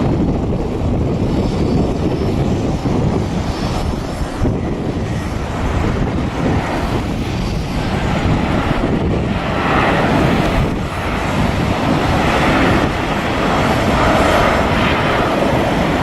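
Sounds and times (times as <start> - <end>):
airliner engines roaring: 0.0 - 16.0.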